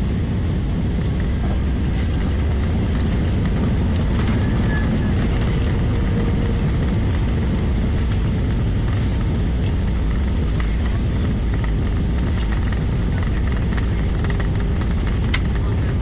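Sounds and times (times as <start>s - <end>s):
deep rumble inside aircraft cabin: 0.0s - 16.0s.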